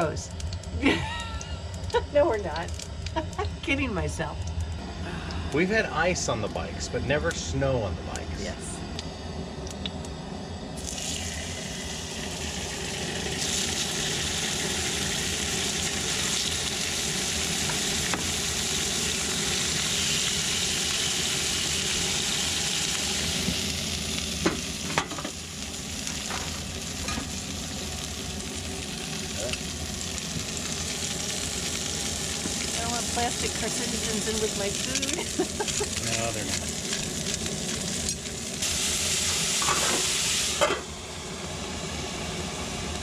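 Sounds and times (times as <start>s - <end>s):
steaks sizzling in a skillet: 0.0s - 4.3s, 10.8s - 41.2s.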